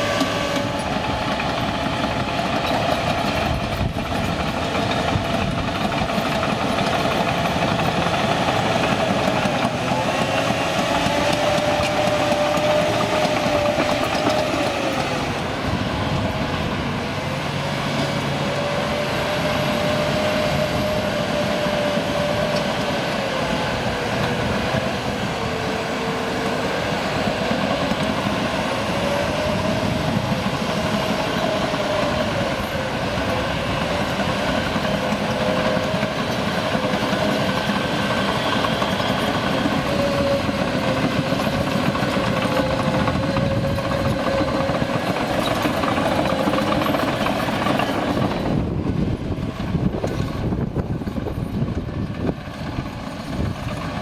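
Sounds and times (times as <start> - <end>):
crawler tracks clattering: 0.0 - 16.8, 21.6 - 54.0
bulldozer engine under load: 0.0 - 54.0
whine: 0.0 - 54.0.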